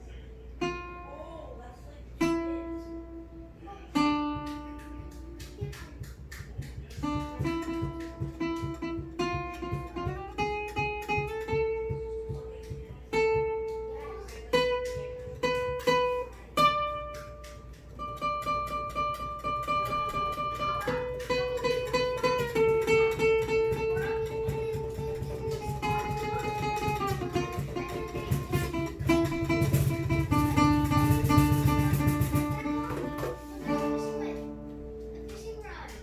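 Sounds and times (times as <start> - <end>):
guitar strummed and plucked: 2.2 - 36.0.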